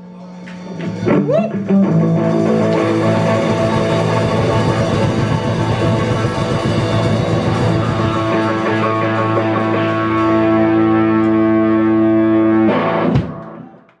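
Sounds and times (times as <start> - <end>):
live rock band: 0.6 - 13.8
distorted electric guitar chord: 1.0 - 13.4.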